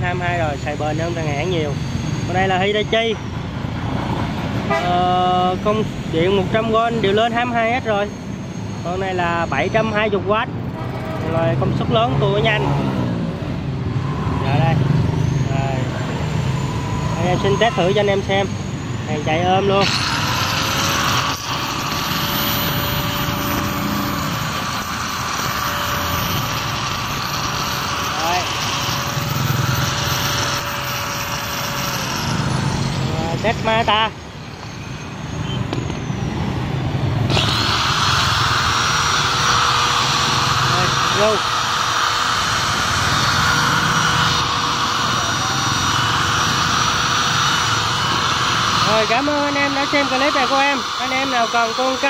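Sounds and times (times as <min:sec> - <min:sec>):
angle grinder whining: 0:00.0 - 0:52.0.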